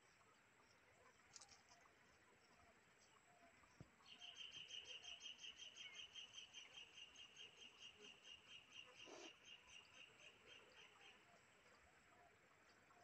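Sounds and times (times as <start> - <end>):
faint insect chirping: 0.0 - 13.0.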